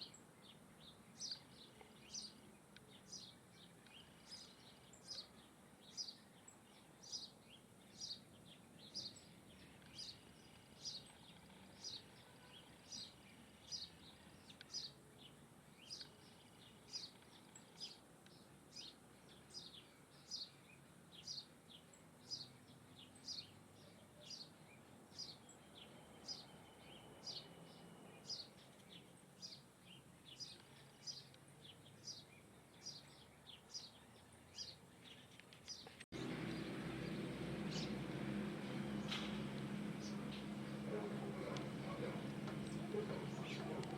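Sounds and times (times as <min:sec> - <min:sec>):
small bird chirping: 0:00.0 - 0:43.9.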